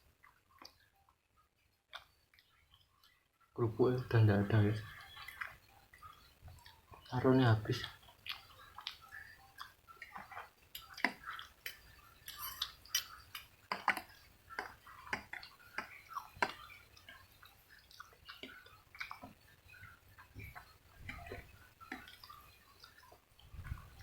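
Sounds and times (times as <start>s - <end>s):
wet chewing: 1.9s - 3.4s, 4.2s - 24.0s.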